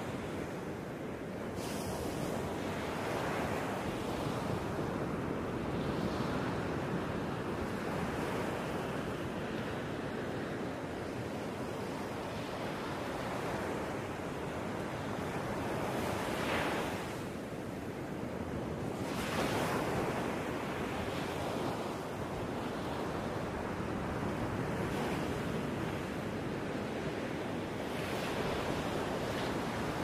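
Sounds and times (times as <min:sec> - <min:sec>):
ocean waves washing: 0:00.0 - 0:30.0.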